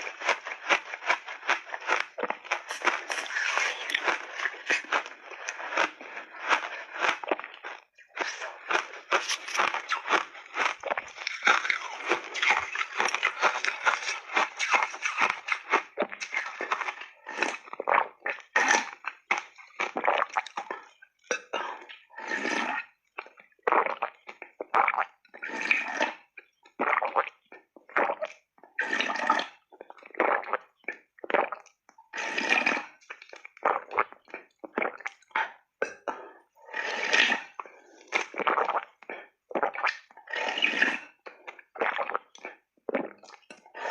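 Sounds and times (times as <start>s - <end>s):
ice crunching while chewed: 0.0s - 36.2s, 36.8s - 43.9s.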